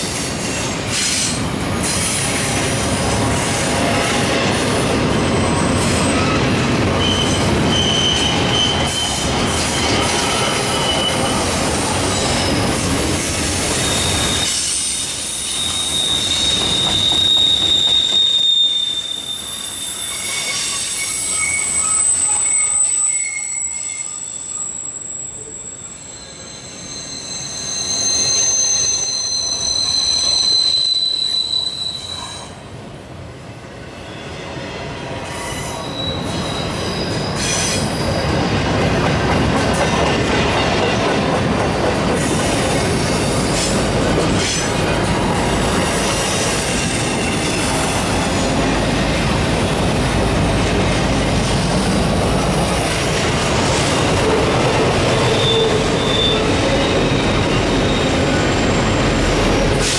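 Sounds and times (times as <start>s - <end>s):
train wheels squealing: 0.0s - 32.6s, 33.9s - 38.8s, 42.1s - 49.8s, 51.4s - 59.9s
steel wheels rumbling on rail: 0.0s - 33.4s, 34.2s - 59.9s.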